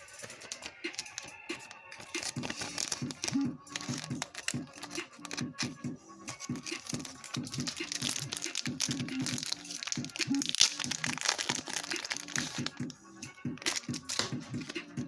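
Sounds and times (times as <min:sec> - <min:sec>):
background music: 0:00.0 - 0:15.0
cards rustling and flicking: 0:00.0 - 0:15.0
foil wrappers crinkling and tearing: 0:00.1 - 0:05.7, 0:06.3 - 0:12.9, 0:13.6 - 0:14.7.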